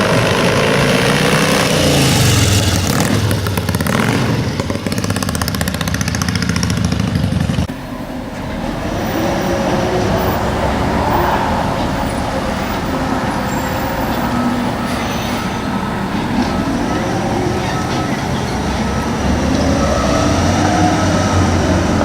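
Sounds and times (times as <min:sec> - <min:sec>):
quieter engine and road noise: 0:00.0 - 0:22.0.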